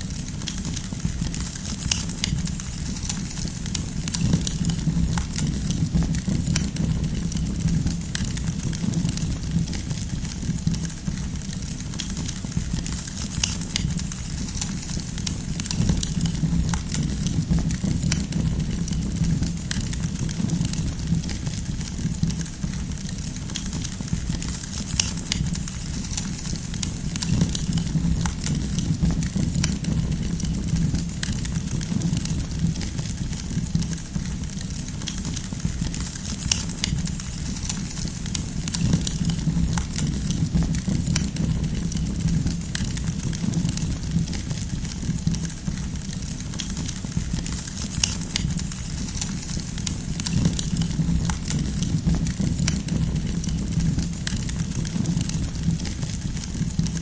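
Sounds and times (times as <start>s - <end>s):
campfire flames rumbling: 0.0s - 57.0s
firewood crackling and popping: 0.0s - 57.0s.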